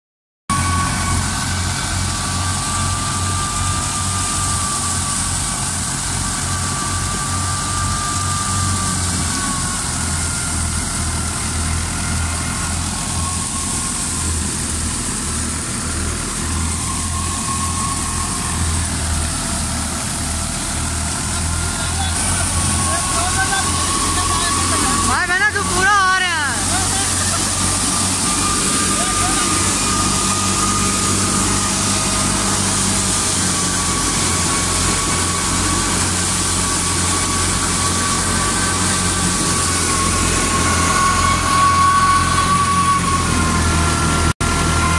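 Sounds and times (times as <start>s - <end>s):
engine drone pulsing: 0.5s - 44.9s
high whine: 0.5s - 44.9s.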